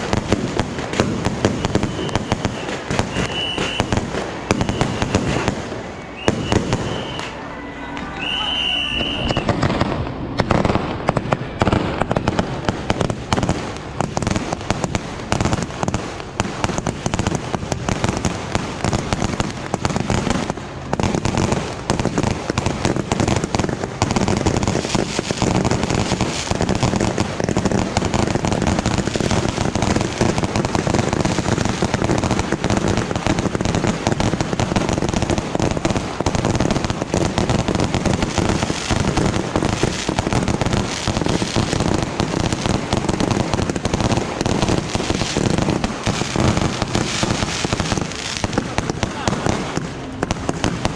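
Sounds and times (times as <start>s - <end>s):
fireworks crackling and banging: 0.0s - 50.9s.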